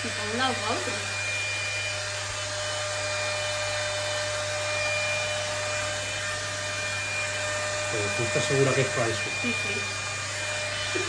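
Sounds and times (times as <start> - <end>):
hot-air styler fan whining: 0.0 - 11.0.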